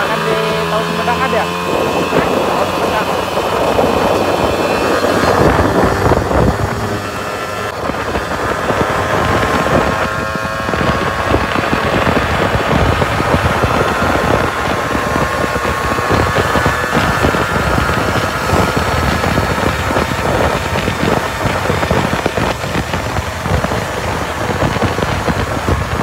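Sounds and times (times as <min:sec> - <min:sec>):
motorcycle engine running: 0:00.0 - 0:26.0
wind on microphone: 0:00.0 - 0:26.0.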